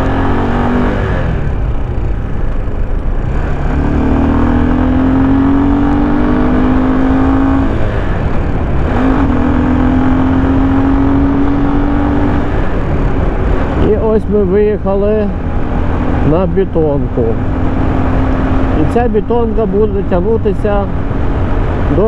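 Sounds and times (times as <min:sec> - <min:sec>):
motorcycle engine accelerating: 0:00.0 - 0:22.0
wind rumble on microphone: 0:00.0 - 0:22.0.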